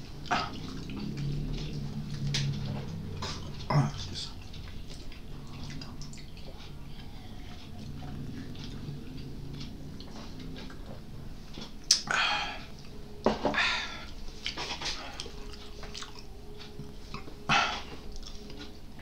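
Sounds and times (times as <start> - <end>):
person chewing: 0.2 - 13.0, 13.6 - 18.8.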